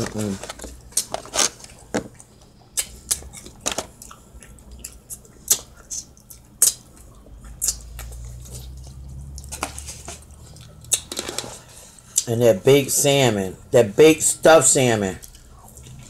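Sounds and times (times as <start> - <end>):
person chewing: 0.0 - 12.3, 15.2 - 16.0.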